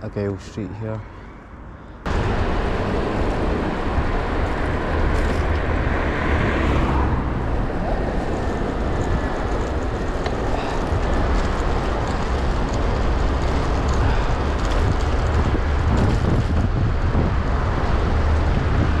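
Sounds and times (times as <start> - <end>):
wind rushing over microphone: 1.5 - 19.0
tyres rumbling on road: 1.8 - 19.0.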